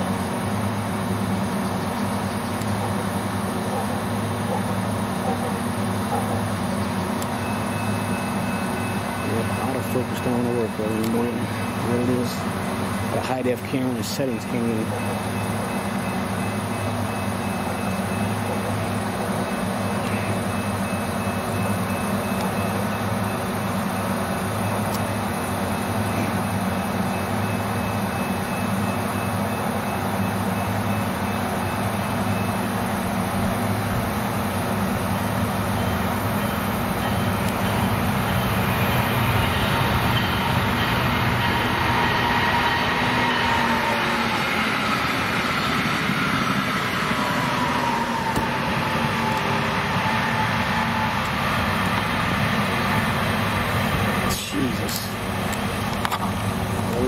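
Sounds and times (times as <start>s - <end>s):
diesel locomotive droning: 0.0s - 57.0s.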